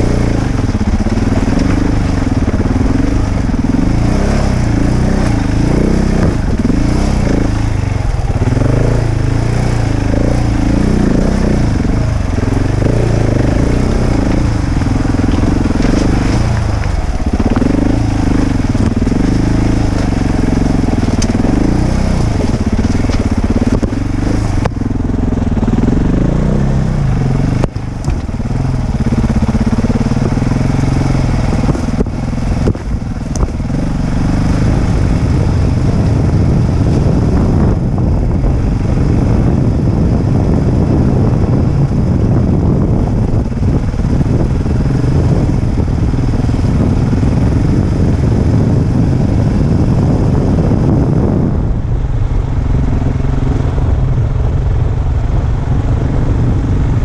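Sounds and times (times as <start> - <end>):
motorcycle engine under load: 0.0 - 57.0.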